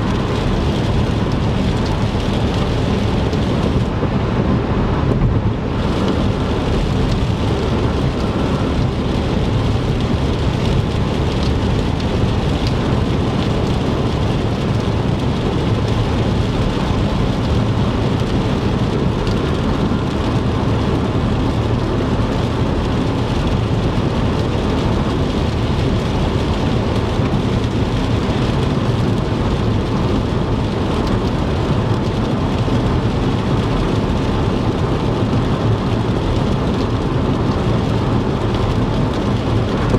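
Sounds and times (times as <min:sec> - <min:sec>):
car tyres on wet road: 0:00.0 - 0:39.9
rain: 0:00.0 - 0:39.9.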